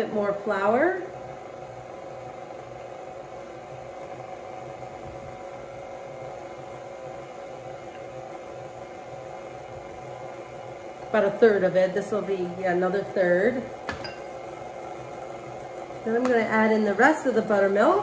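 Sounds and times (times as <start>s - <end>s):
stand mixer motor hum: 0.0s - 18.0s.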